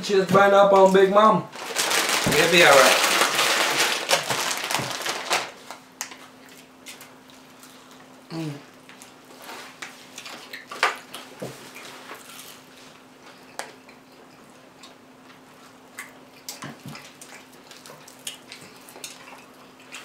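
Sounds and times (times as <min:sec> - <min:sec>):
faint steady hum: 0:00.0 - 0:20.0
chewing crispy food: 0:01.6 - 0:20.0.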